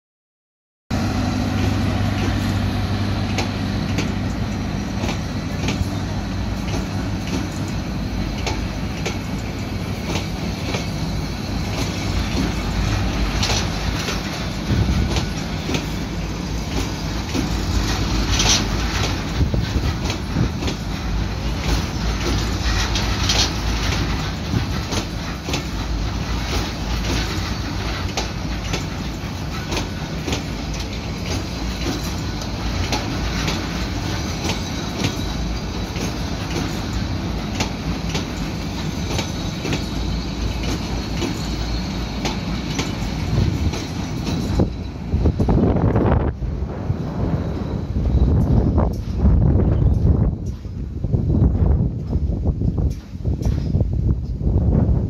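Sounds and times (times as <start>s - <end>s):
train wheels rumbling on rails: 0.9s - 55.0s
clickety-clack over rail joints: 1.2s - 46.6s, 47.2s - 55.0s.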